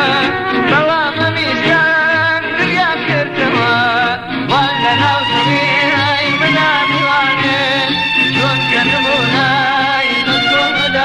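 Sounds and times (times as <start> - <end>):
instrumental backing with bass: 0.0 - 11.0
person singing ornamented melody: 0.0 - 11.0.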